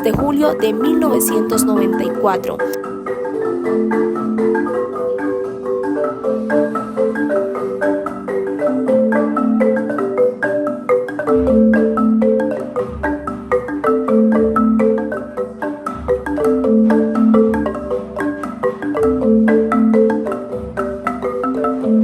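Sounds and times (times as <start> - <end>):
marimba playing: 0.0 - 22.0.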